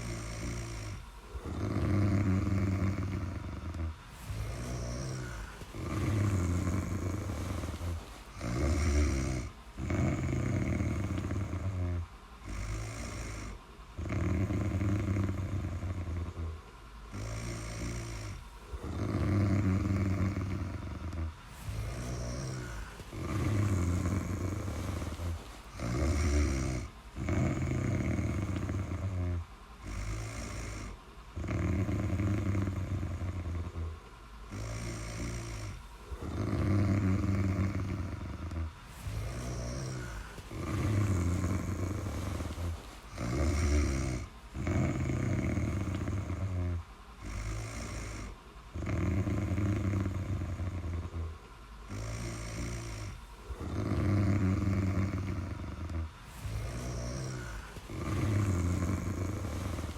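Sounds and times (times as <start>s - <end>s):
person snoring: 0.0s - 59.9s
soft breathing: 0.0s - 59.9s.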